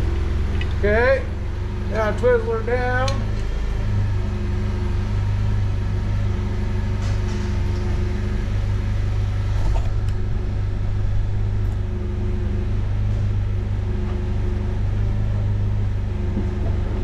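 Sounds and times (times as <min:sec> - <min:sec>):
forklift engine idling: 0:00.0 - 0:17.0.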